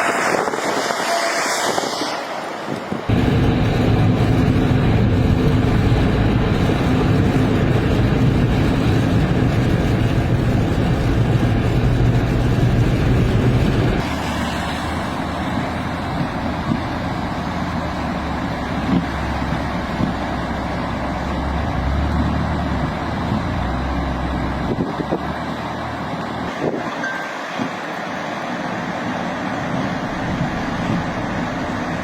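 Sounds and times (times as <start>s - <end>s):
road noise: 0.0s - 32.0s
vehicle engine hum: 0.0s - 32.0s.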